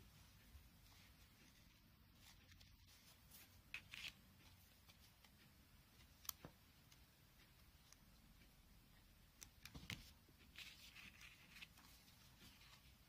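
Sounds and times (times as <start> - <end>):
ribbon rustling: 0.0 - 13.0.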